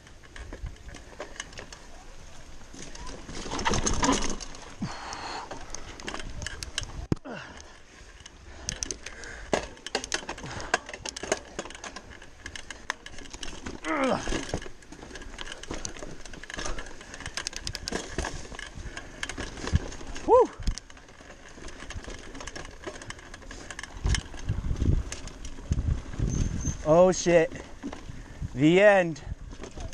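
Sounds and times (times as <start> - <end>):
bike chain and frame rattling: 0.0 - 29.9
tyres rumbling on dirt: 0.0 - 29.9.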